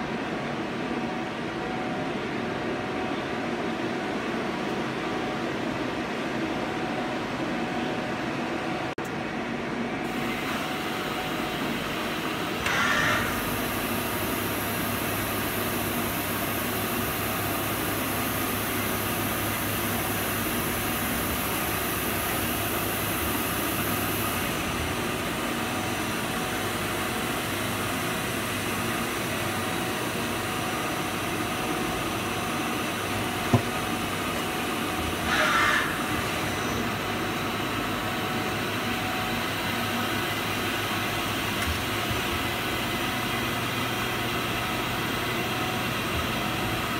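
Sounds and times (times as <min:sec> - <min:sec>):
lathe mechanical hum: 0:00.0 - 0:46.9.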